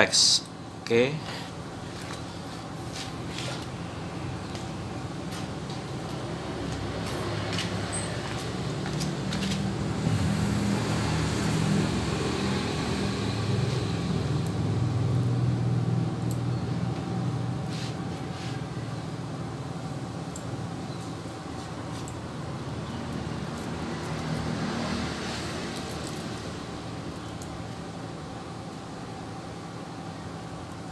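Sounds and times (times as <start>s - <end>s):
vehicle engine rumbling: 1.3s - 30.7s.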